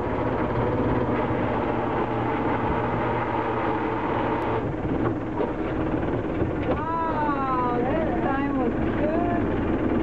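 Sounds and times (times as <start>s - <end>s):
boat engine and hauler drone: 0.0s - 10.0s.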